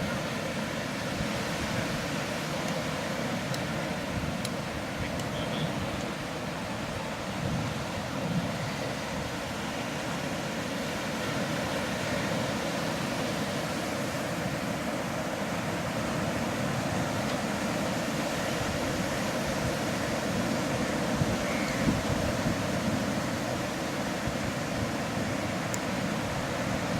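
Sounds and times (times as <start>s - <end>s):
sea surf washing onto beach: 0.0s - 26.9s.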